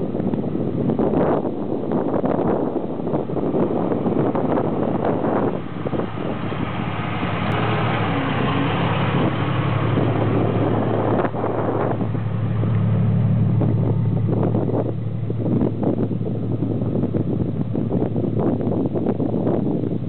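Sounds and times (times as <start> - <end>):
vehicle engine running: 3.4 - 20.0.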